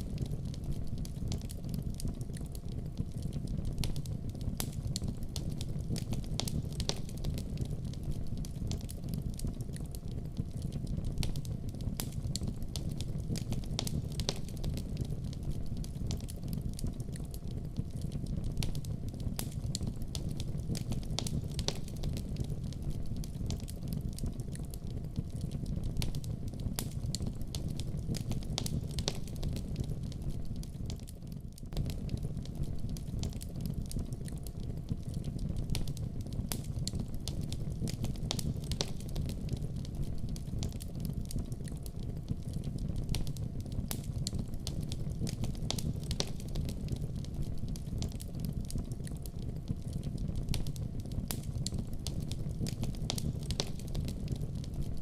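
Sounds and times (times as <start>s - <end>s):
fire low rumble: 0.0s - 55.0s
fireplace fire crackling: 0.0s - 55.0s
sharp pops and snaps: 0.0s - 55.0s.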